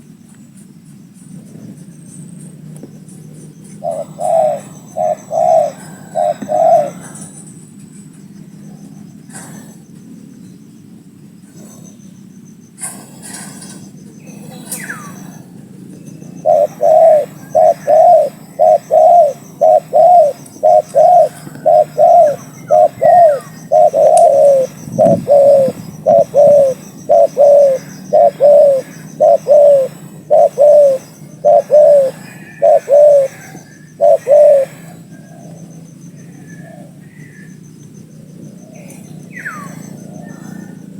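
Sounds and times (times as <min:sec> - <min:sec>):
dove cooing: 0:03.1 - 0:07.7, 0:08.7 - 0:10.0, 0:12.8 - 0:40.9.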